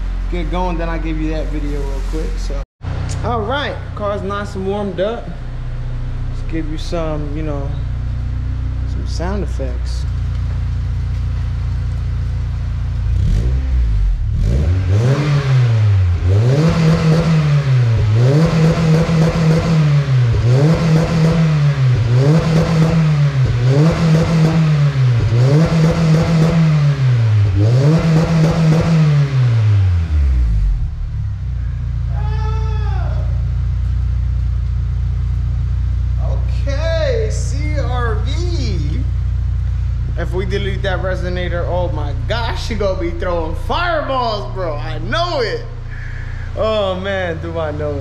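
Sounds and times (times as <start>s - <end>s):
car engine revving: 0.0s - 32.2s, 32.8s - 48.0s.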